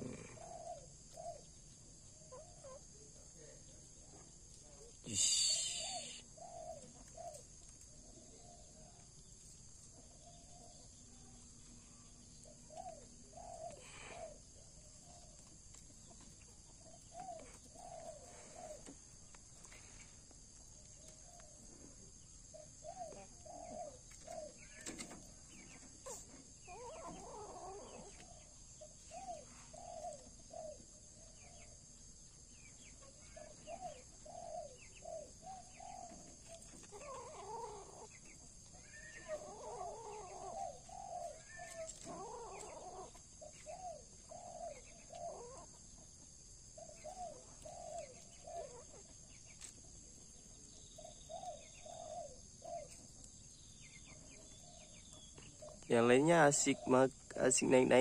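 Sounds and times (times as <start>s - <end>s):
faint bird calls: 0.0s - 1.6s, 2.2s - 9.0s, 10.0s - 31.8s, 32.5s - 46.0s, 46.8s - 49.7s, 50.4s - 53.1s, 53.7s - 58.0s.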